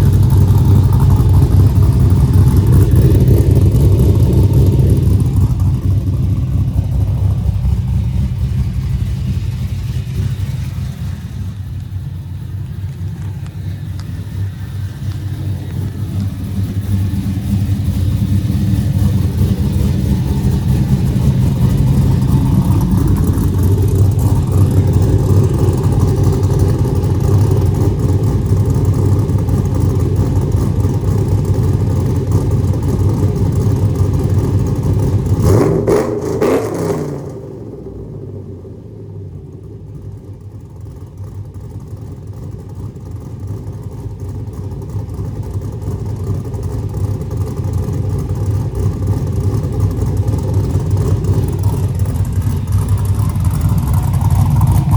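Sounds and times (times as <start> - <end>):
deep car exhaust note: 0.0 - 40.4, 48.8 - 54.9.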